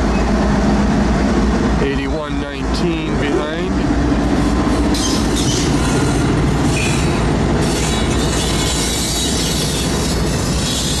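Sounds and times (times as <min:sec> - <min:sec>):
boxcars rolling on rails: 0:00.0 - 0:11.0
diesel locomotive passing: 0:00.0 - 0:11.0.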